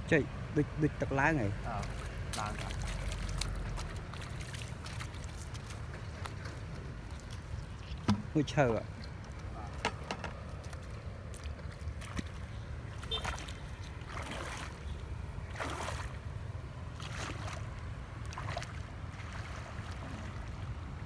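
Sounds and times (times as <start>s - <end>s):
legs splashing through water: 1.6s - 21.0s.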